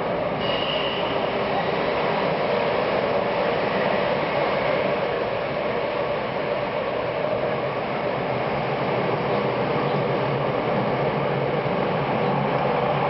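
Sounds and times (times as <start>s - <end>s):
subway train wheels on rail: 0.0s - 13.0s.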